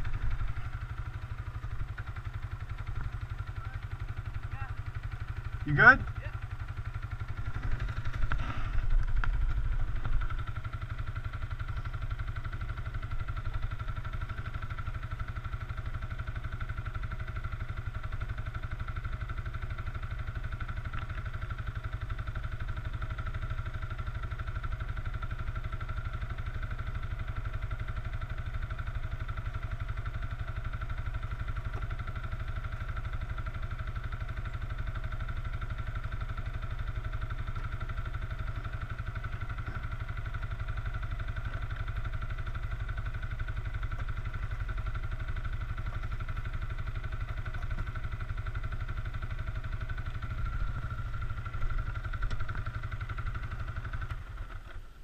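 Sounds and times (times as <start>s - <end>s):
atv engine idling: 0.0s - 55.0s.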